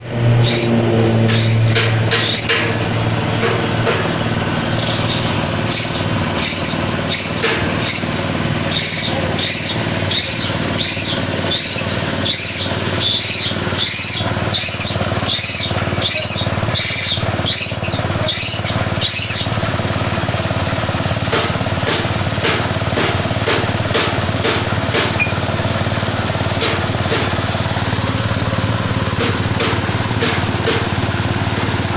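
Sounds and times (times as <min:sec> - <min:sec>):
pellet press humming: 0:00.0 - 0:31.9.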